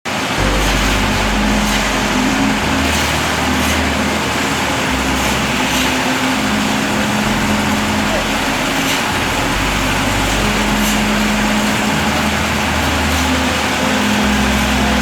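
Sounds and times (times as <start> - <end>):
engine droning: 0.2 - 15.0.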